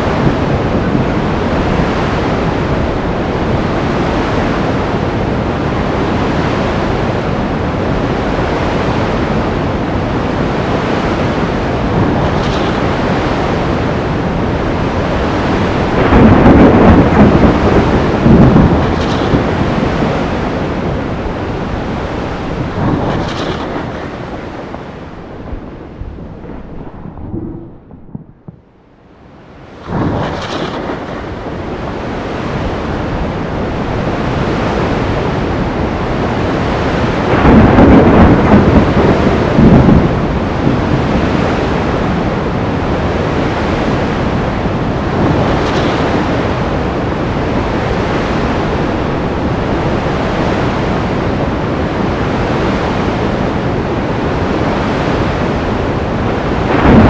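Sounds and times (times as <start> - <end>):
waves crashing: 0.0 - 27.6, 29.4 - 57.0
rain: 0.0 - 57.0
thunder rumbling: 0.0 - 57.0.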